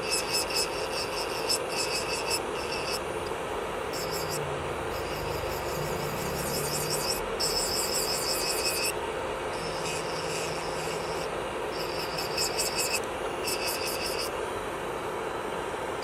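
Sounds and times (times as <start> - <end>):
electric nail drill grinding: 0.0 - 14.4.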